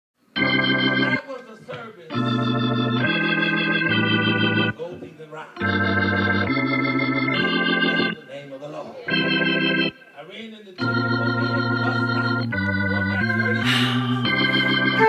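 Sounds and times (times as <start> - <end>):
organ chords: 0.2 - 15.0.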